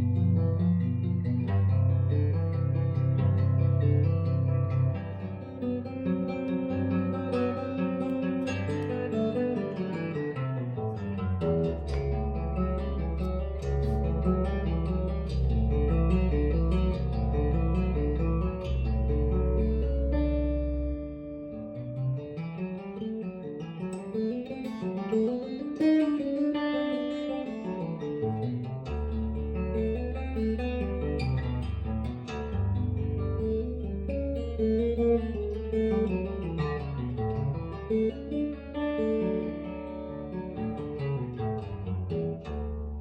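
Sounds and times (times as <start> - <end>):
plucked guitar melody: 0.0 - 43.0.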